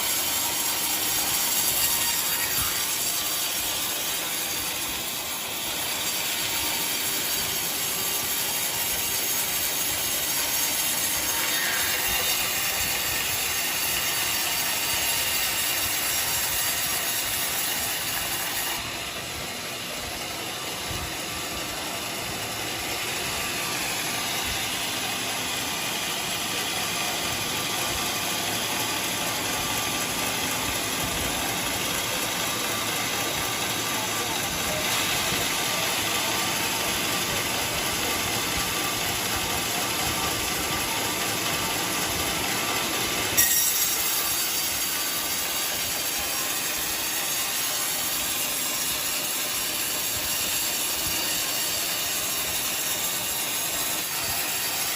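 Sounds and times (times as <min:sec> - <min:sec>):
sawmill engine: 0:00.0 - 0:54.9.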